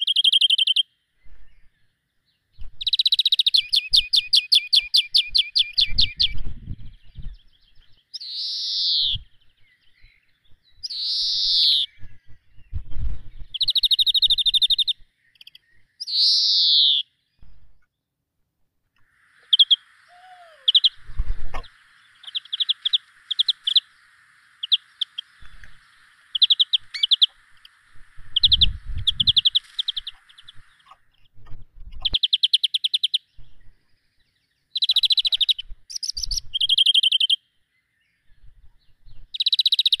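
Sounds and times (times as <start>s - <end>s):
small birds chirping and trilling: 0.0s - 18.1s, 19.0s - 40.0s
faint steady hiss: 0.0s - 40.0s.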